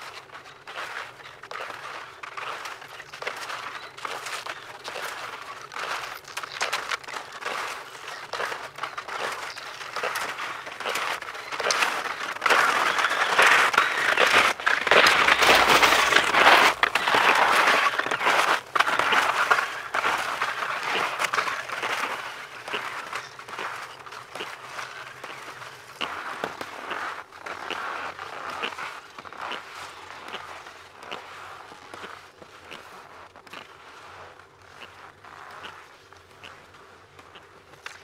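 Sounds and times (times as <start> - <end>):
ski pole plants crackling: 0.0 - 32.1
skis sliding over snow: 0.0 - 38.0.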